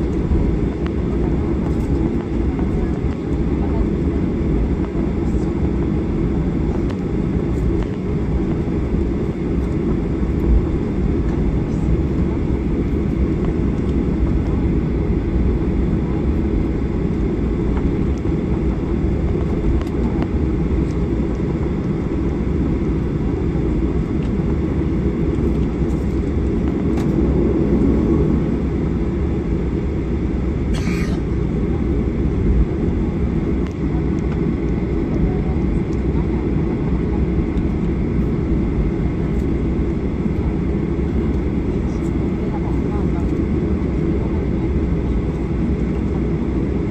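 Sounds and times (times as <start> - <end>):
airplane engines low rumble: 0.0 - 46.9.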